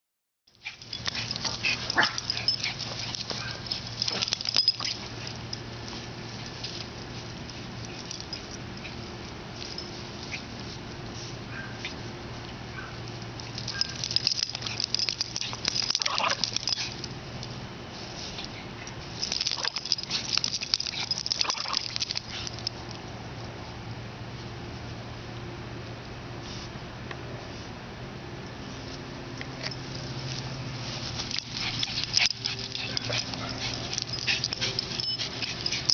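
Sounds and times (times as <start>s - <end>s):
dog scuffling in grass: 0.7s - 22.6s, 28.6s - 35.9s.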